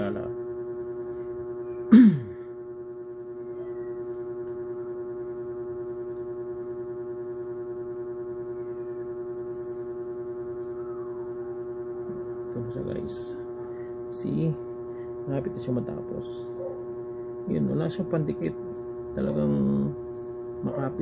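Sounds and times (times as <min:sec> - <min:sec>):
steady droning hum: 0:00.0 - 0:21.0.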